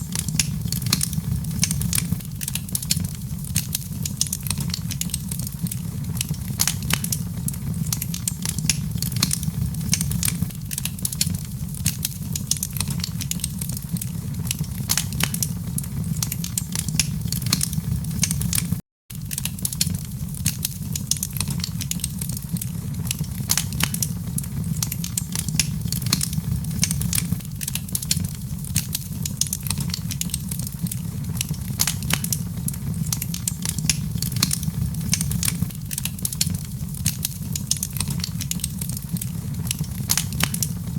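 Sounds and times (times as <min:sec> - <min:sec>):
fire pops and snaps: 0:00.0 - 0:40.9
flames rumbling: 0:00.0 - 0:40.9.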